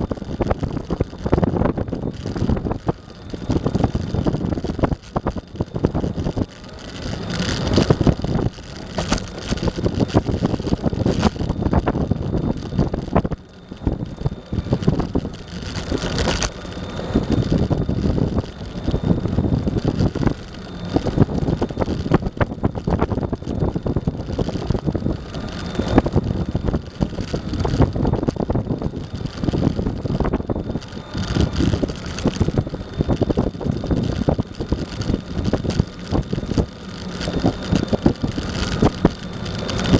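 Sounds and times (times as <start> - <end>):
skateboard wheels rumbling on asphalt: 0.0 - 39.9
wind buffeting microphone: 0.0 - 39.9.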